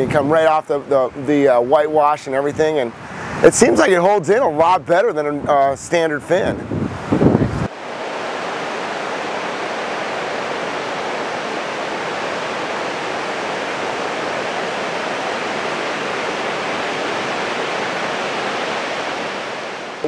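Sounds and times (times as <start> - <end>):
ocean surf roaring: 0.0 - 20.0.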